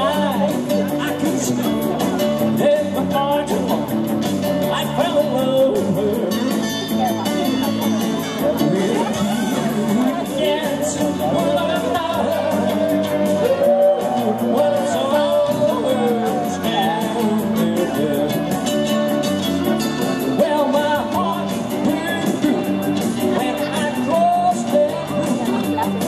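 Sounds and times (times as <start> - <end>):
live rock and roll band: 0.0 - 26.0
person singing: 0.0 - 26.0.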